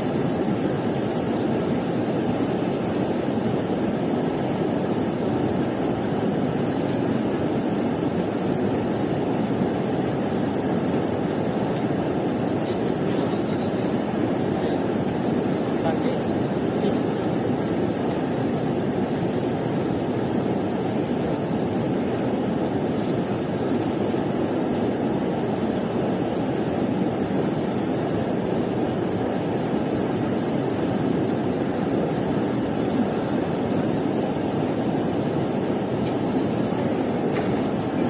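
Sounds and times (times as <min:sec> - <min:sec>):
steady rushing noise: 0:00.0 - 0:38.0.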